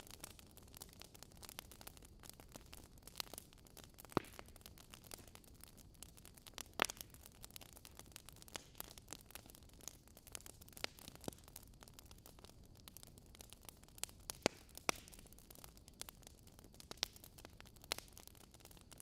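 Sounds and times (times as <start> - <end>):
wood logs crackling in fireplace: 0.0 - 19.0.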